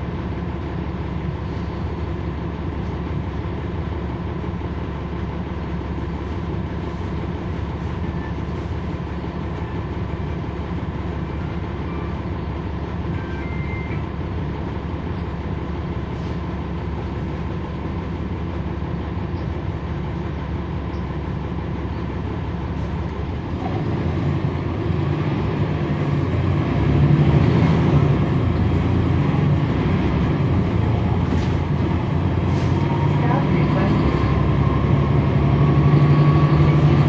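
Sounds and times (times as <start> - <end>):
bus diesel engine: 0.0 - 37.0.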